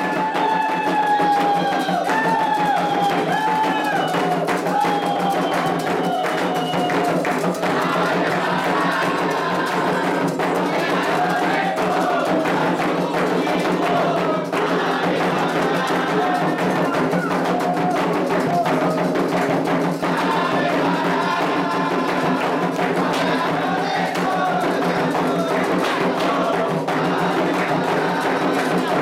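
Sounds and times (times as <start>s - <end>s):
hand drums: 0.0s - 29.0s
voices singing a chant: 0.0s - 29.0s.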